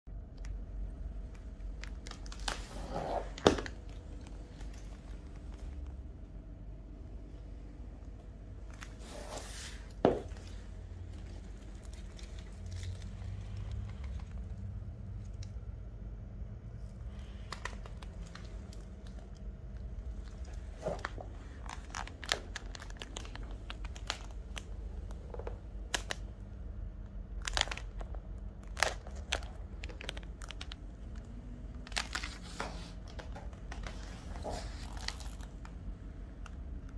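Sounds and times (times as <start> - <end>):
pvc boots crinkling and rustling: 0.9 - 6.1, 8.3 - 14.8, 17.1 - 26.3, 27.2 - 36.0.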